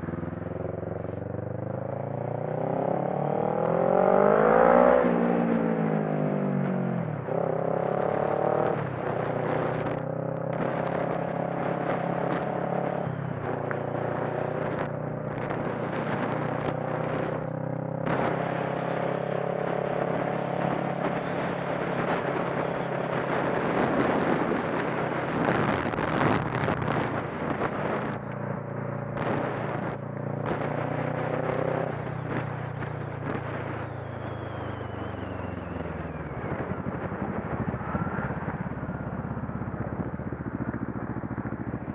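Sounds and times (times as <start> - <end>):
motorcycle engine shifting gears: 0.0 - 41.9
wind rushing over microphone: 0.0 - 41.9.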